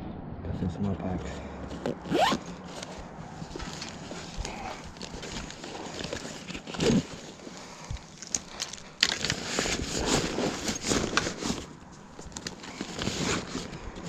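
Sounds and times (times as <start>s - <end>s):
bag rustling: 1.7s - 14.0s.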